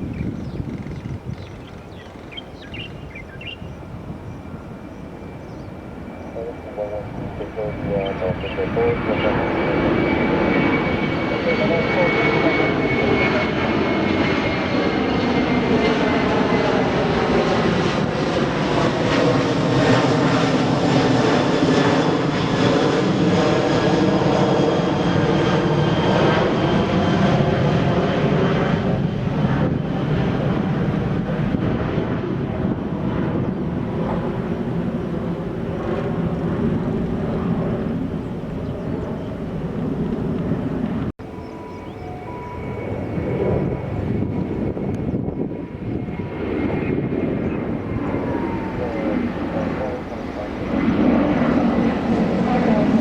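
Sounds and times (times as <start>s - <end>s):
jet engines passing: 0.0s - 53.0s.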